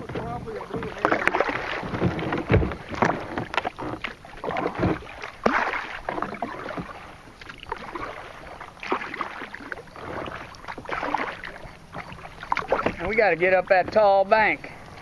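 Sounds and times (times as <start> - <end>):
water dripping from paddle: 0.0 - 13.3
kayak paddle splashing water: 0.0 - 14.6.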